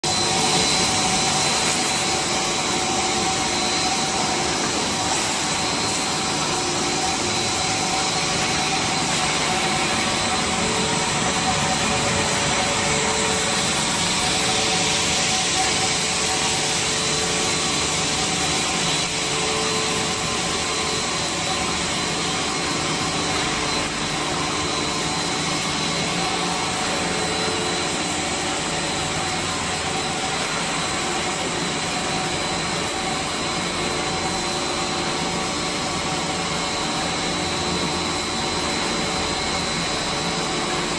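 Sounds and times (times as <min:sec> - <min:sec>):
constant high whine: 0:00.0 - 0:40.9
wire drawing machine running: 0:00.0 - 0:40.9.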